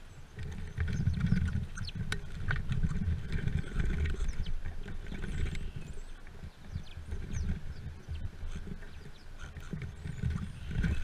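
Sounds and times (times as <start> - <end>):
birds scuffling on plastic feeder: 0.3 - 11.0.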